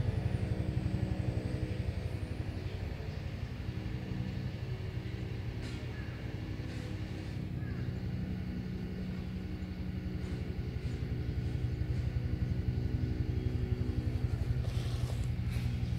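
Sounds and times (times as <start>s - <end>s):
motor engine running: 0.0s - 15.9s.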